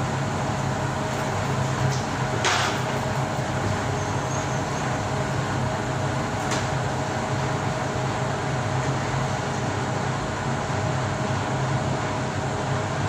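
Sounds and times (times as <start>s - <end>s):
burner hum and fan rush: 0.0s - 13.0s
thin steady whine: 0.0s - 13.0s.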